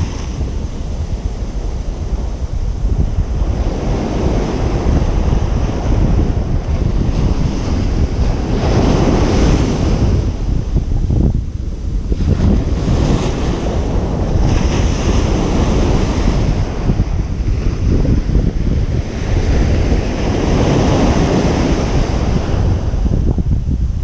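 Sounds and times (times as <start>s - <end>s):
ocean surf breaking: 0.0s - 23.3s
wind buffeting microphone: 0.0s - 24.0s.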